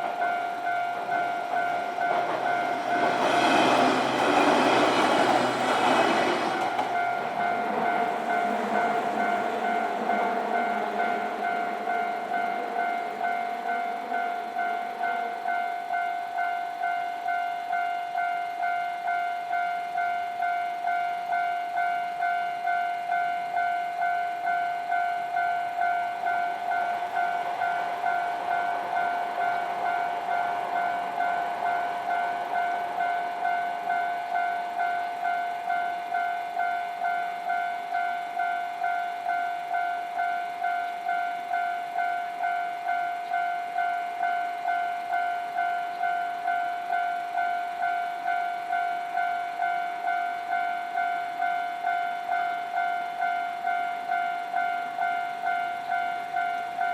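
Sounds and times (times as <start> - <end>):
passing train rumble: 0.0 - 17.8, 20.7 - 56.9
level-crossing electronic bell: 0.0 - 56.9.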